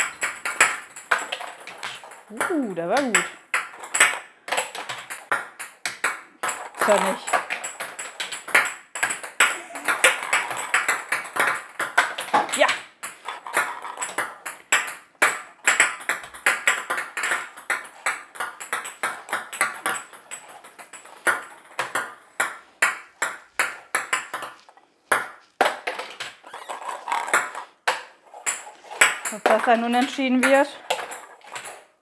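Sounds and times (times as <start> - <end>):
balls clattering into plastic grid: 0.0 - 32.0
plastic balls bouncing on tabletop: 0.0 - 32.0.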